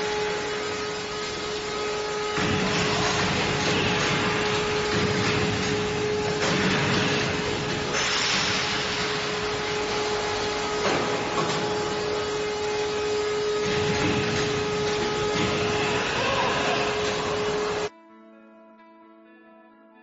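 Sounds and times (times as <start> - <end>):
constant steady tone: 0.0 - 17.9
molten metal pour rushing: 0.0 - 17.9.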